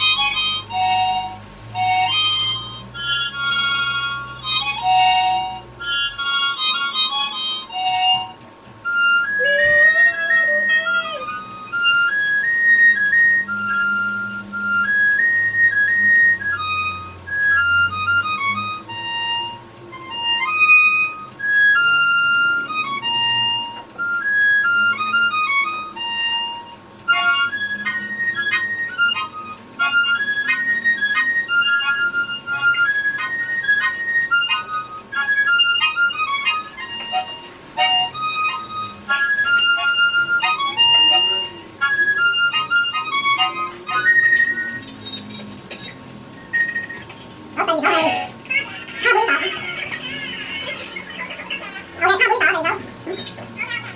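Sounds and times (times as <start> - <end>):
harmonica melody: 0.0 - 52.9.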